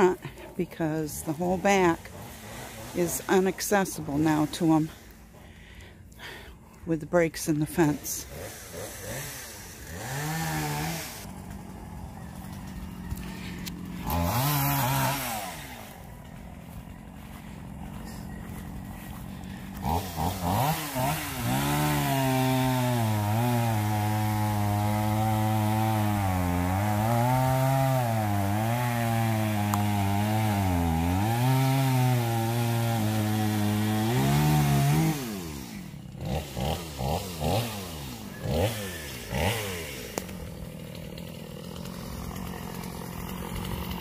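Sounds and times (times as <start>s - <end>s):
chainsaw cutting wood: 0.0s - 44.0s.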